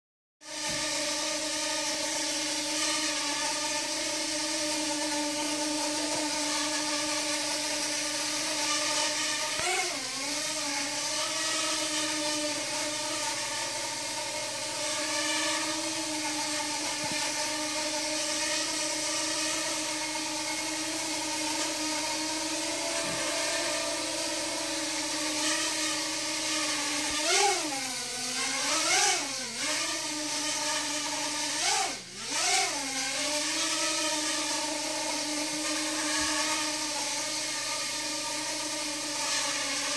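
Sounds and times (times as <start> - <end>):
drone buzzing whine: 0.4 - 39.9.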